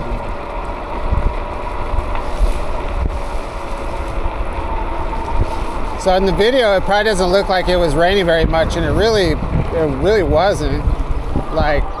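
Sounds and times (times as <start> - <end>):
faint steady whine: 0.0 - 12.0
low rumble: 0.0 - 12.0
wind rushing over microphone: 0.0 - 12.0.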